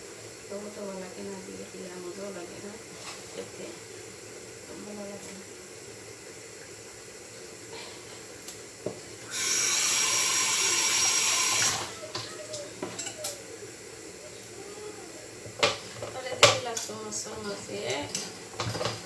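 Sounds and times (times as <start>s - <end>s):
water tap running: 0.0s - 19.0s.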